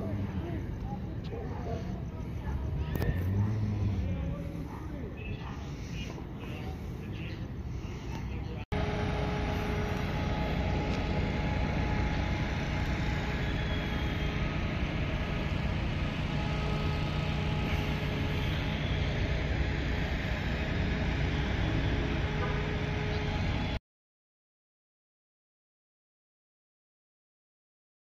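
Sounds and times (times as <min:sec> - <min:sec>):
faint steady hums: 0:00.0 - 0:23.8
idling vehicle engines rumble: 0:00.0 - 0:23.8.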